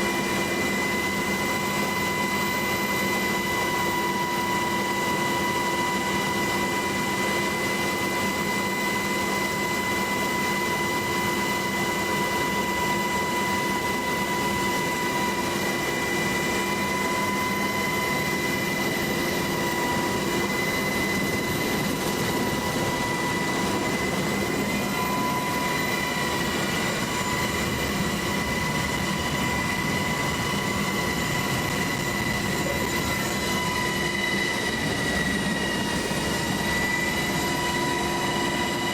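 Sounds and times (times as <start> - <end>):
helicopter engine and rotor noise: 0.0 - 38.9.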